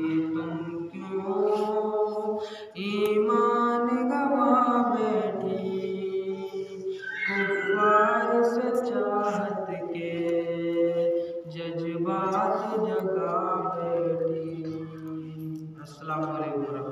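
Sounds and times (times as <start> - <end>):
man singing unaccompanied: 0.0 - 16.9.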